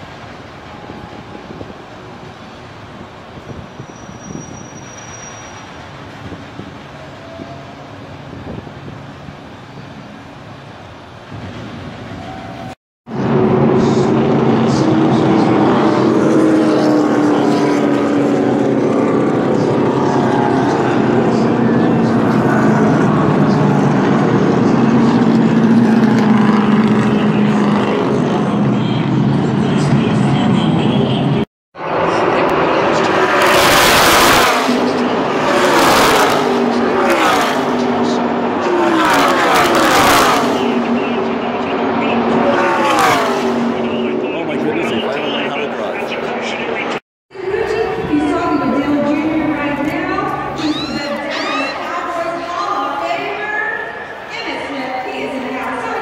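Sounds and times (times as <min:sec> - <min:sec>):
distant vehicle engine rumble: 0:00.0 - 0:56.0.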